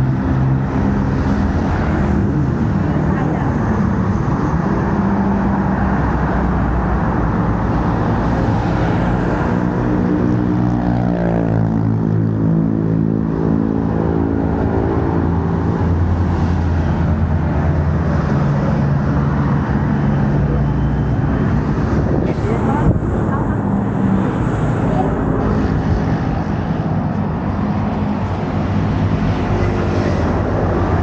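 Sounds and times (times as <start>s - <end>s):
steady road traffic: 0.0s - 31.0s.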